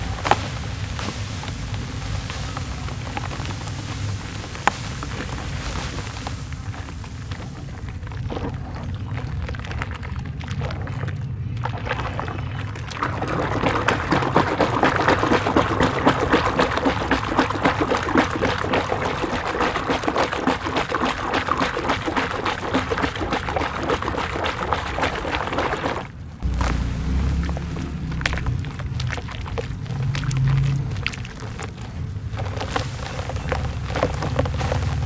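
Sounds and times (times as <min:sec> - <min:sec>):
hands squelching dirt in water: 0:00.0 - 0:35.0
rapid crackling: 0:00.0 - 0:35.0.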